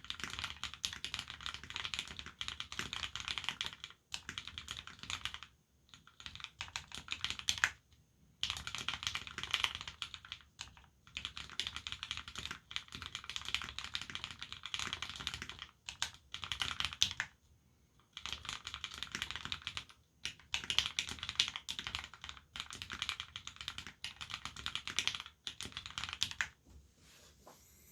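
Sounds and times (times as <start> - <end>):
mechanical keyboard typing: 0.0 - 7.8, 8.4 - 17.3, 18.1 - 26.6.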